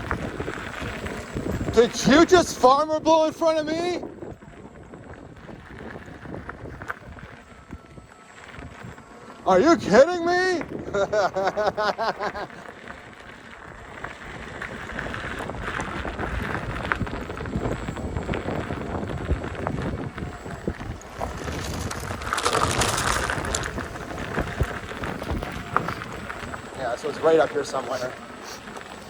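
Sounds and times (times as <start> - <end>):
electric unicycle rumble: 0.0 - 29.0
wind buffeting microphone: 0.0 - 29.0.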